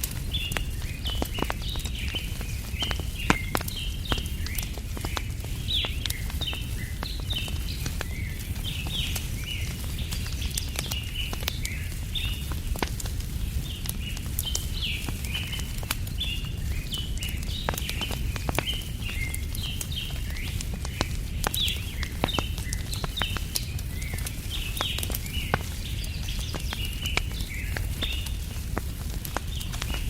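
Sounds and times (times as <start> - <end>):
small birds chirping: 0.0 - 30.0
wood fire crackling: 0.0 - 30.0.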